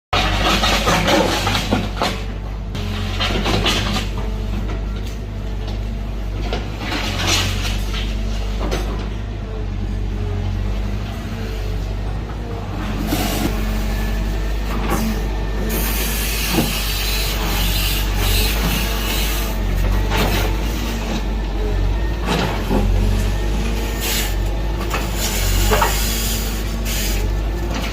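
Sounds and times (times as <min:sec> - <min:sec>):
construction machinery engine drone: 0:00.2 - 0:27.9.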